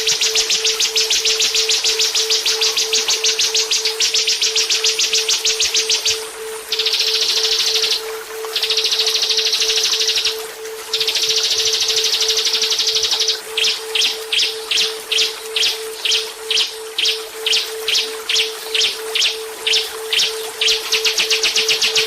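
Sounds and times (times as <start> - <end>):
rapidly pulsing low tone: 0.0 - 22.0
songbird trills and sharp notes: 0.0 - 22.0.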